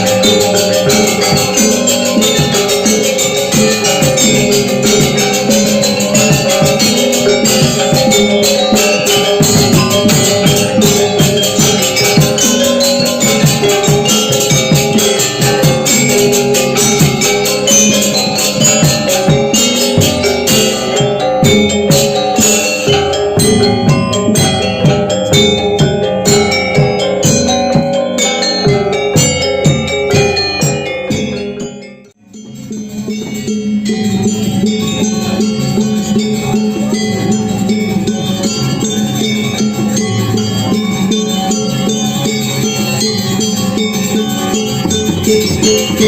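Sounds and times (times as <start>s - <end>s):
gamelan music: 0.0s - 46.0s.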